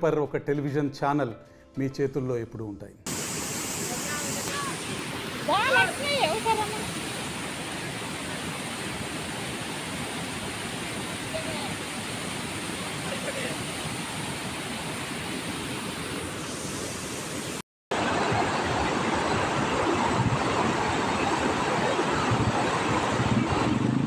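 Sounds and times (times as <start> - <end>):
floodwater rushing: 3.1 - 24.0.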